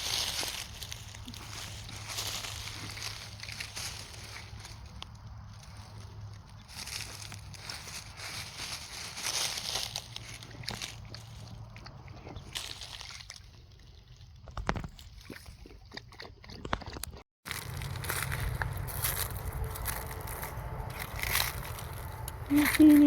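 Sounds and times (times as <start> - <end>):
water sloshing in a creek: 0.0 - 23.0.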